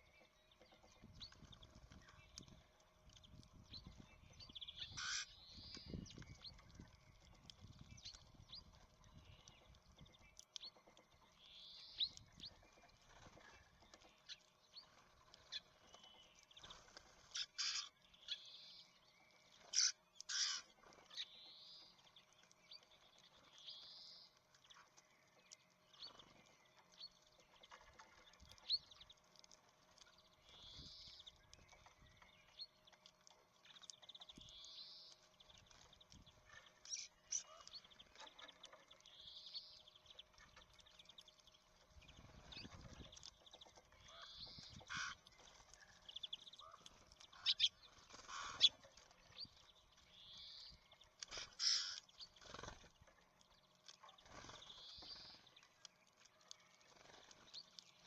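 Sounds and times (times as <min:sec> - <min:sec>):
songbirds calling: 0:00.0 - 0:58.0.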